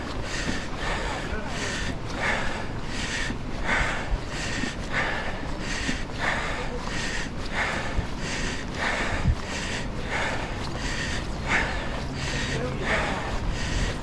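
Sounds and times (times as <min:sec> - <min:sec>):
person breathing hard: 0:00.0 - 0:14.0.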